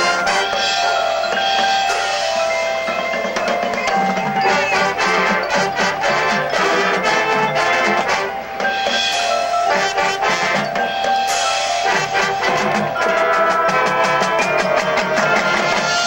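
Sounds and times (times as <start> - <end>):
brass chords: 0.0 - 16.0
marimba and xylophone strikes: 0.0 - 16.0
percussion: 0.0 - 16.0.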